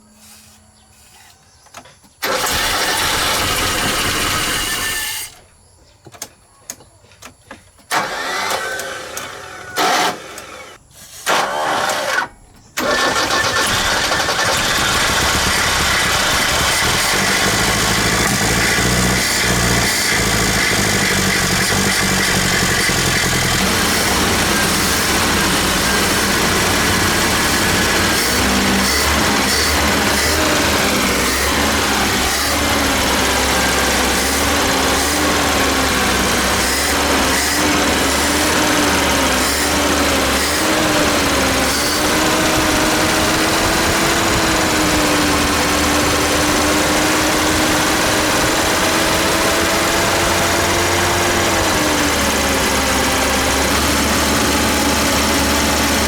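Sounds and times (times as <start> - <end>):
engine cranking: 2.1 - 5.4, 7.3 - 56.0
engine running steadily: 2.2 - 5.4, 12.8 - 56.0.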